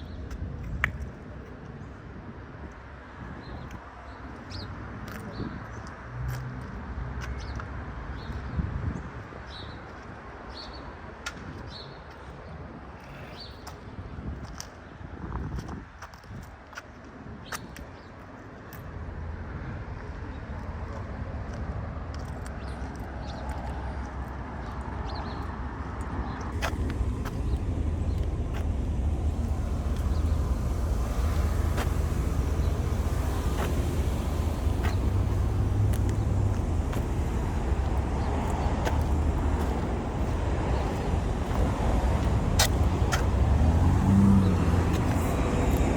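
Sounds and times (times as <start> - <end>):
traffic hum: 0.0 - 45.9.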